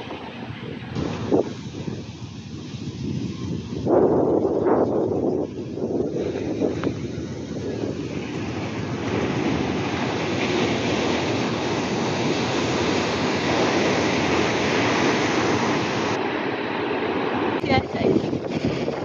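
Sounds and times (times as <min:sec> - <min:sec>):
breaking surf: 0:00.0 - 0:19.0
wind buffeting microphone: 0:00.0 - 0:19.0.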